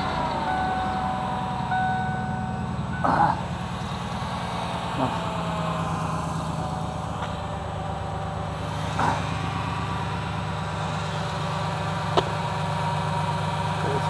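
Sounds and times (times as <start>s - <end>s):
car engine low pulsing: 0.0s - 14.0s.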